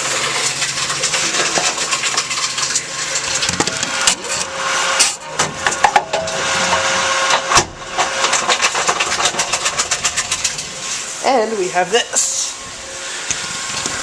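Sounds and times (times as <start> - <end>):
vending machine running: 0.0 - 14.0.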